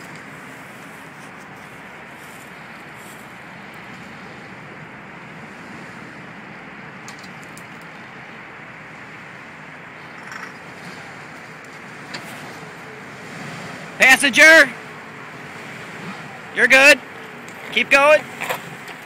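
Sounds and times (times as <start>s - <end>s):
engine rumbling low: 0.0s - 19.0s.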